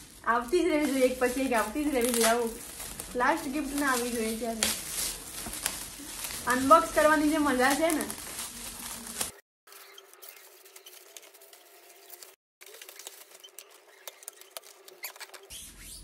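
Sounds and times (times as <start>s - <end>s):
gift wrap tearing and crinkling: 0.0s - 15.5s.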